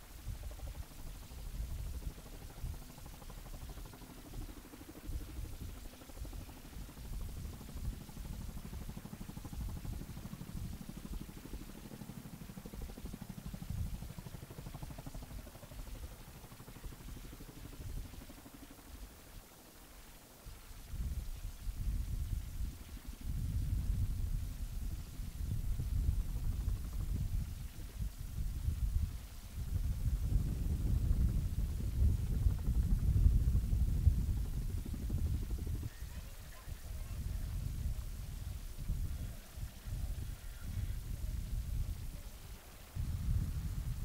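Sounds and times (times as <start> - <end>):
distant helicopter rotor beat: 0.0 - 44.0
wind rumbling on microphone: 0.0 - 44.0.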